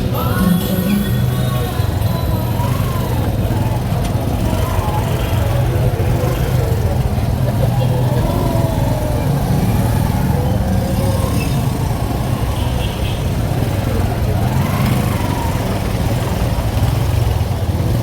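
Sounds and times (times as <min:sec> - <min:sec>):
faint voices: 0:00.0 - 0:18.0
vehicle engines running: 0:00.0 - 0:18.0.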